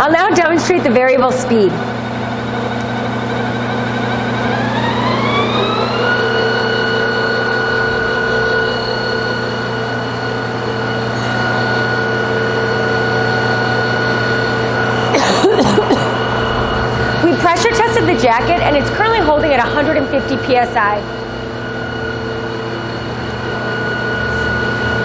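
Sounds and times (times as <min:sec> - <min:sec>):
mixer motor whining: 0:00.0 - 0:25.0.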